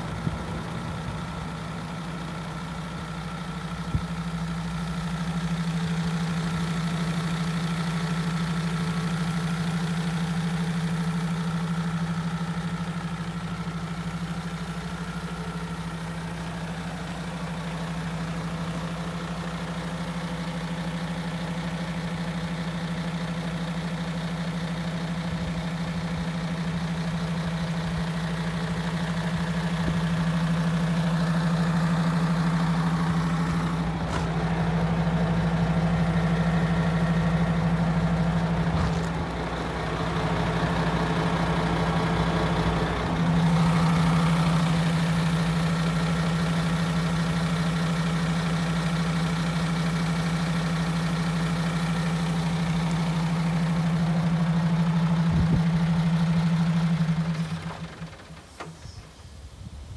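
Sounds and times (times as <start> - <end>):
diesel truck idling: 0.0 - 59.9.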